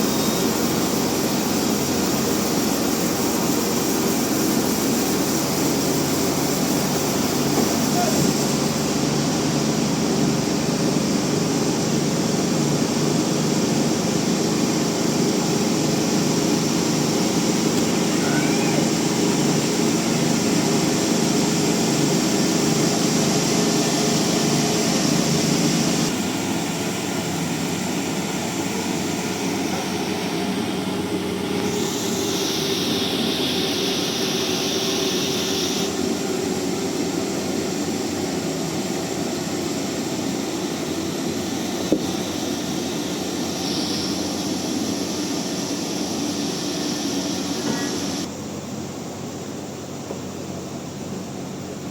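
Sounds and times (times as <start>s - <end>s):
band sawmill running: 0.0s - 51.9s.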